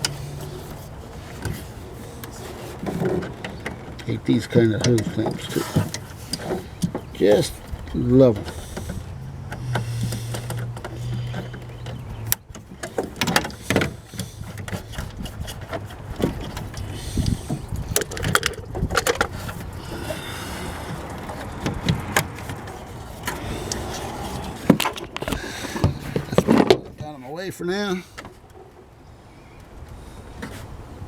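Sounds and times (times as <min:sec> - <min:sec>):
metallic clicks and scrapes: 0:00.0 - 0:26.8.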